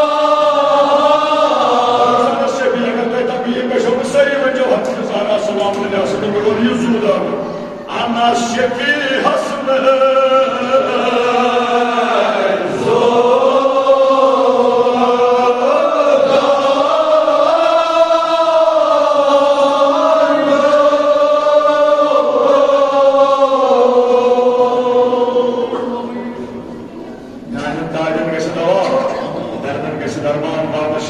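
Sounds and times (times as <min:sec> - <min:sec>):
men chanting in unison: 0:00.0 - 0:26.6.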